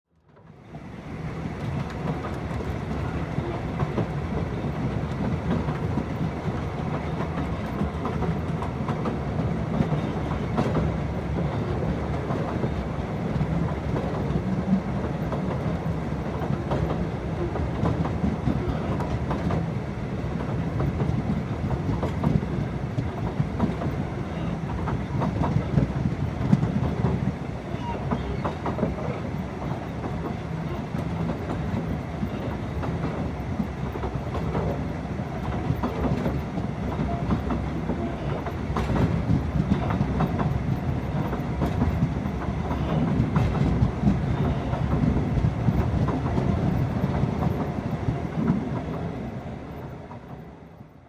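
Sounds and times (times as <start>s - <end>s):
train wheels rumbling on rails: 0.3s - 51.0s.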